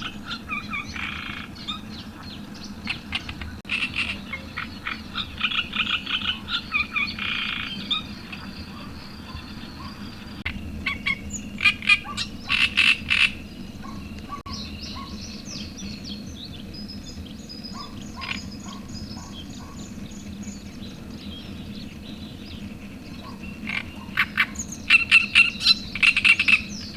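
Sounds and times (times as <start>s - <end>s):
low rush of wind or water: 0.0s - 26.9s
pulsed croaking calls: 0.0s - 26.9s
small birds chirping: 0.0s - 26.9s.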